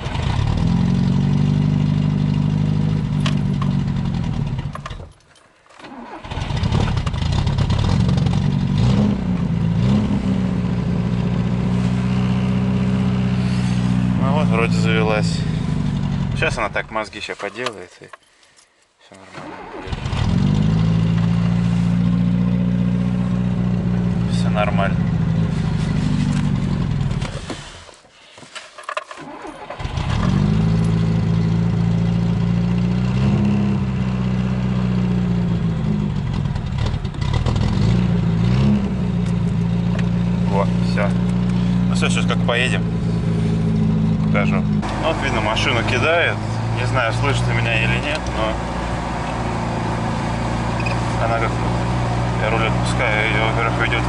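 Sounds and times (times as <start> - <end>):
car engine starting and idling: 0.0 - 17.9, 19.1 - 28.0, 29.0 - 54.0.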